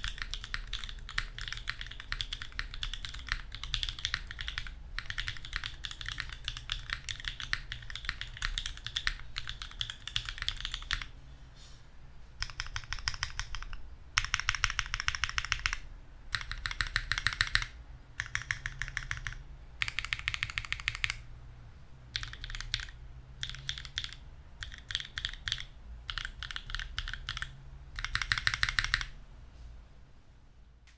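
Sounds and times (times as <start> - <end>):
typing on mechanical keyboard: 0.0 - 11.2, 12.4 - 21.2, 22.1 - 29.2.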